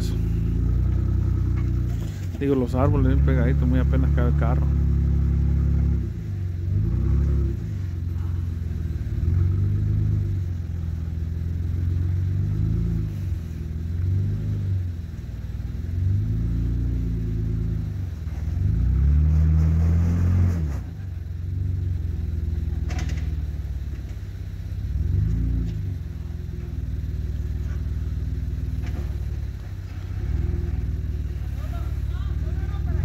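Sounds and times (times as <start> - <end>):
off-road engine revving: 0.0 - 33.0.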